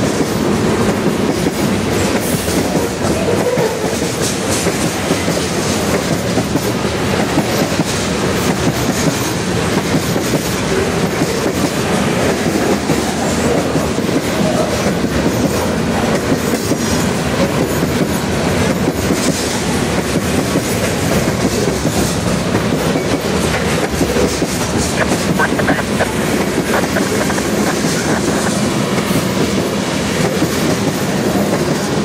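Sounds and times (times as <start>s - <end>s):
freight train wheels rumbling on rail: 0.0s - 32.0s.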